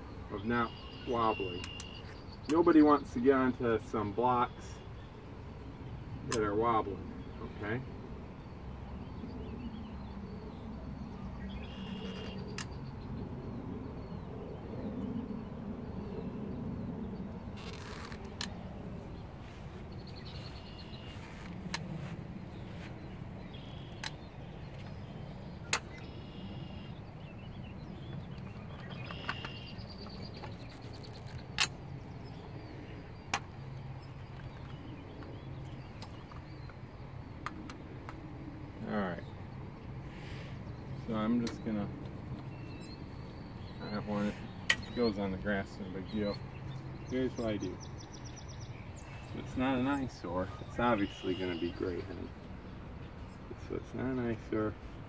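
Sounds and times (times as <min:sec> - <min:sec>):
birds chirping: 0:00.0 - 0:55.0
outdoor background hum: 0:00.0 - 0:55.0.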